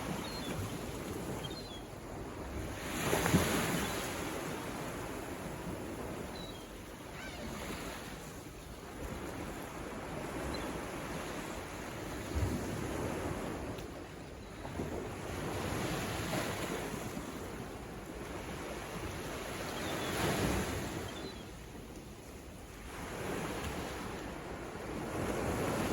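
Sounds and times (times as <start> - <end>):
ocean waves breaking on shore: 0.0 - 25.9.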